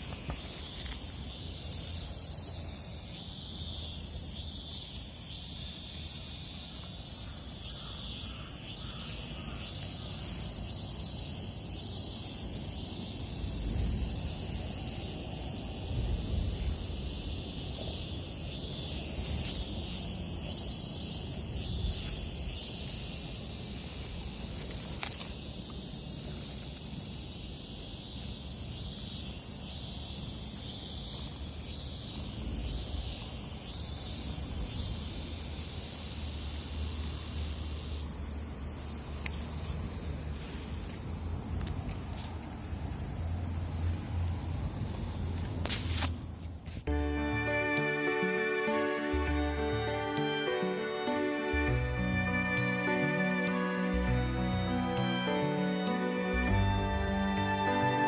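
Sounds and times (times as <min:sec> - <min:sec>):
cicada pulsing call: 0:00.0 - 0:58.0
cicadas chirring: 0:00.0 - 0:58.0.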